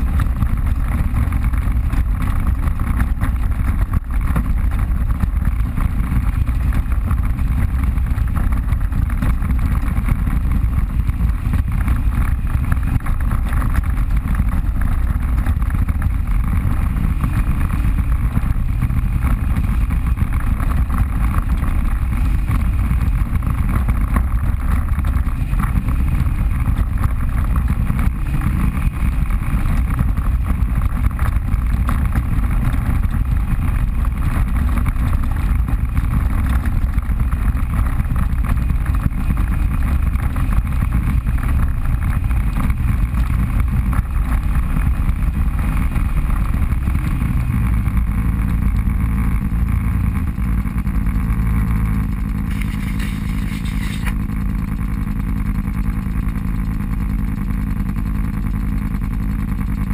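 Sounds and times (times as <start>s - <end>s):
off-road vehicle engine droning: 0.0s - 59.9s.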